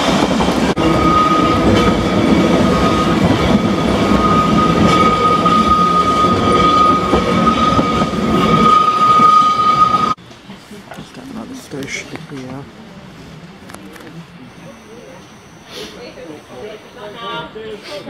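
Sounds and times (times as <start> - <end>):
electric tram rumbling: 0.0 - 17.7.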